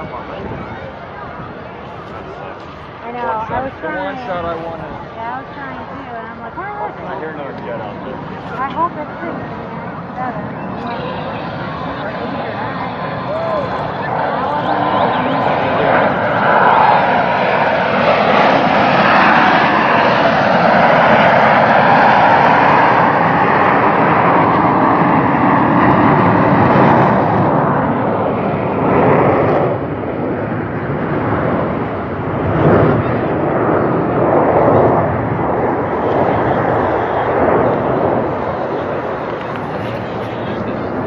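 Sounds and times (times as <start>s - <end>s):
jet aircraft flying past: 0.0s - 41.0s.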